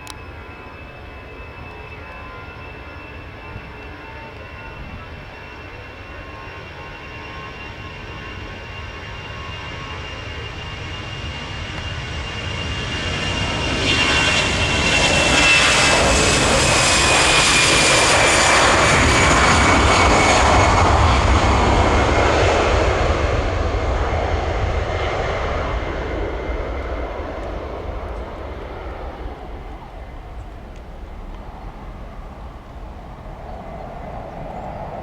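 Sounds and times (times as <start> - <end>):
jet airliner engine roar: 0.0 - 35.0.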